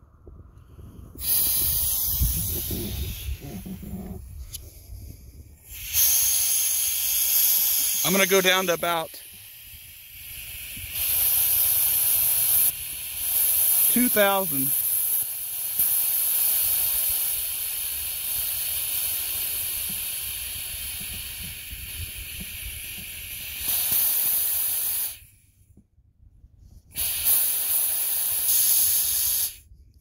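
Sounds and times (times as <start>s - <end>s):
high-pressure air hissing: 0.5s - 25.6s, 26.8s - 29.7s.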